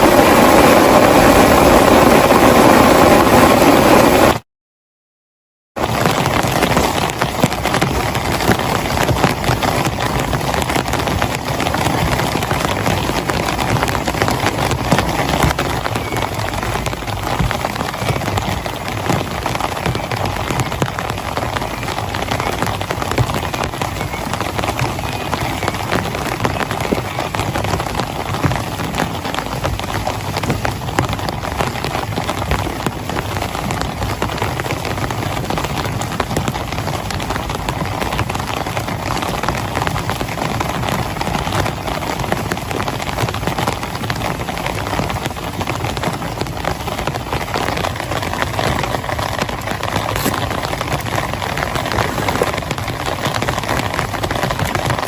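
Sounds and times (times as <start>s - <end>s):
heavy rain falling: 0.0s - 4.4s, 5.8s - 55.0s.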